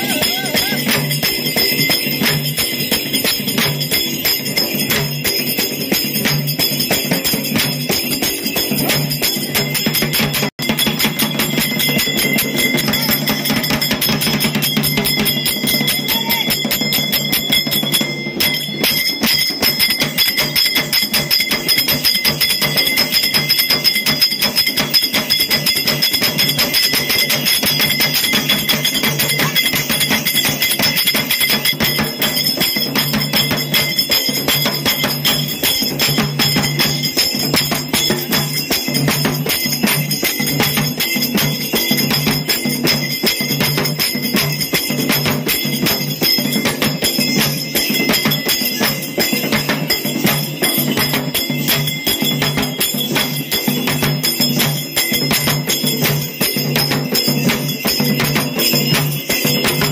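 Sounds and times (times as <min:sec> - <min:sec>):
bells jingling: 0:00.0 - 0:59.9
fast procession percussion: 0:00.0 - 0:59.9.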